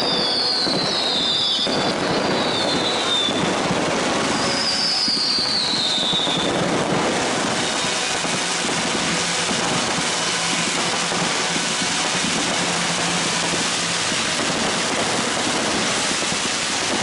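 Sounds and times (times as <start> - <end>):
descending firework whistle: 0.0 - 17.0
fireworks crackling: 0.0 - 17.0.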